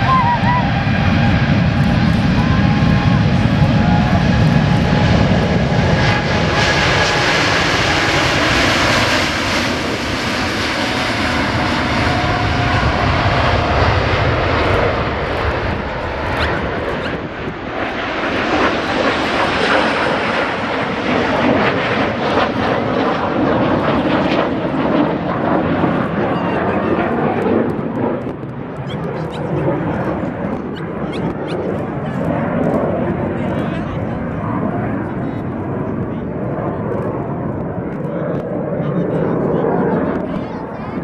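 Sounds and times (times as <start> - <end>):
faint jet whine: 0.0 - 41.0
jet engines at takeoff: 0.0 - 41.0.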